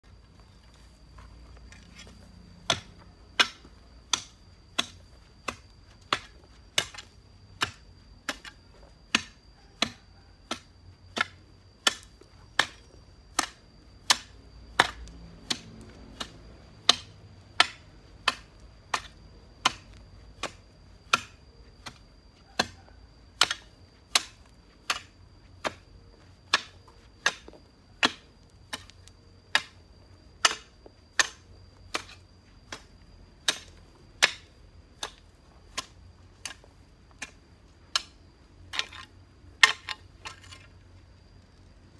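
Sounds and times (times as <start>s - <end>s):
faint high-pitched whine: 0.0s - 41.9s
hoe chopping into ground: 0.4s - 40.7s.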